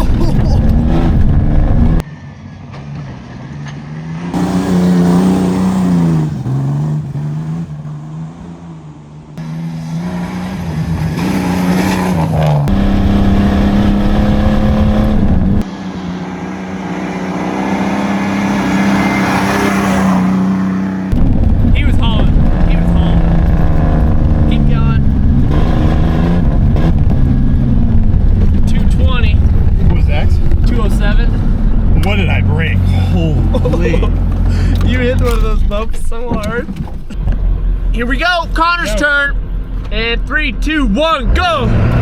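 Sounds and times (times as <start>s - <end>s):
pickup truck engine revving: 0.0s - 2.0s, 3.9s - 42.0s.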